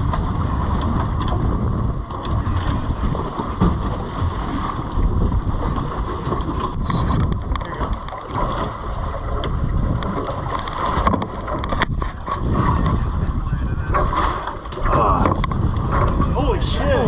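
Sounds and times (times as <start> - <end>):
steady rumble: 0.0 - 17.0
water washing around boat: 0.0 - 17.0
wind buffeting microphone: 0.0 - 17.0.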